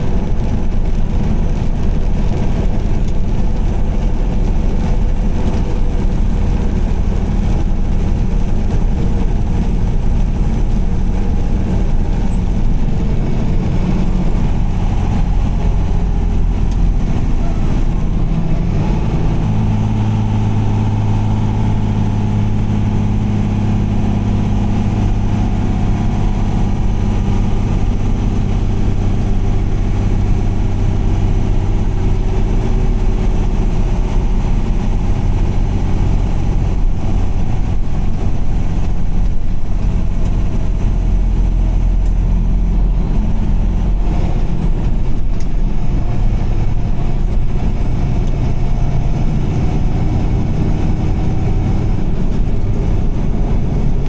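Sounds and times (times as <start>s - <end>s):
car engine drone: 0.0s - 54.0s
road noise: 0.0s - 54.0s.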